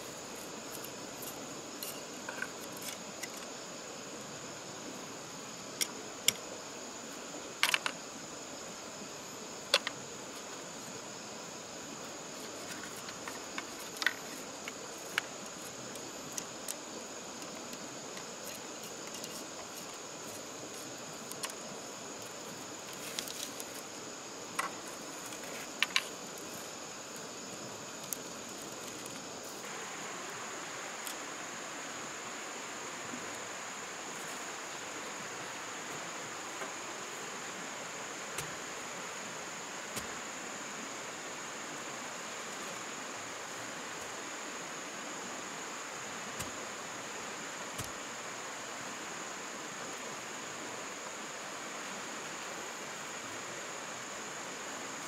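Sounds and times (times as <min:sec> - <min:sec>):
insects droning: 0:00.0 - 0:55.0
stream hissing: 0:00.0 - 0:55.0.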